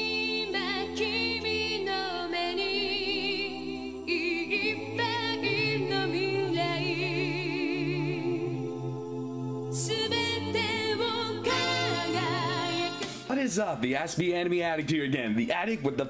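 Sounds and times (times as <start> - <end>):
voice singing with vibrato: 0.0 - 13.3.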